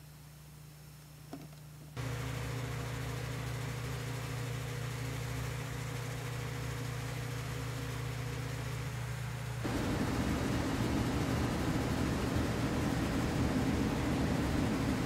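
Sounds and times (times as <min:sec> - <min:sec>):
machine humming and hissing: 0:02.0 - 0:15.0.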